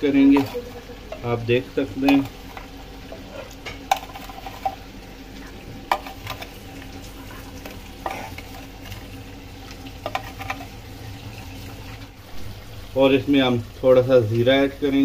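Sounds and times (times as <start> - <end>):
food sizzling in pot: 0.0 - 15.0.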